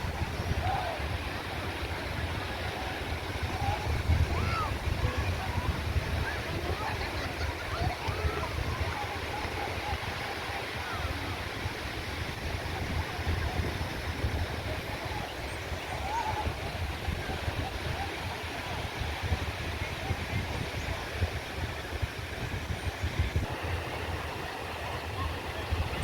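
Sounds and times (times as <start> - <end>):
ocean surf washing: 0.0 - 26.0.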